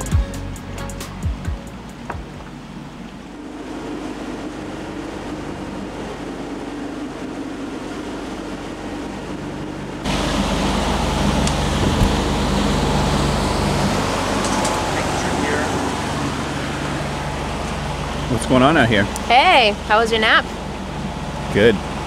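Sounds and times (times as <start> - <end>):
boat engine hum: 0.0 - 22.0
water rushing along hull: 0.0 - 22.0.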